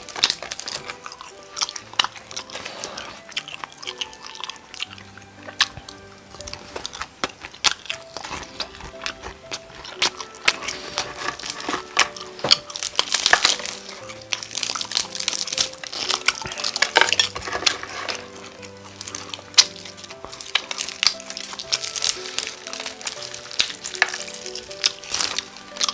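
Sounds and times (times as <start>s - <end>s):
crunching fried chicken: 0.0s - 25.9s
soft background music: 0.0s - 25.9s.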